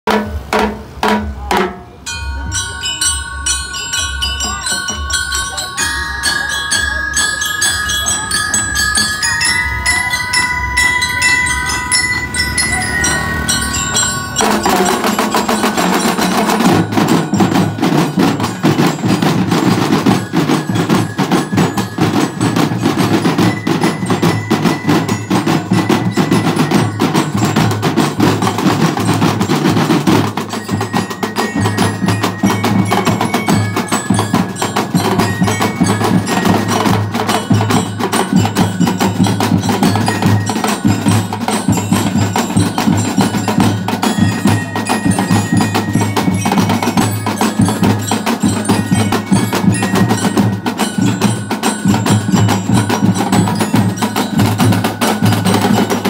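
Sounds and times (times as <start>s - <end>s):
bell lyre melody: 2.0s - 56.0s
snare drums fast pattern: 4.4s - 56.0s.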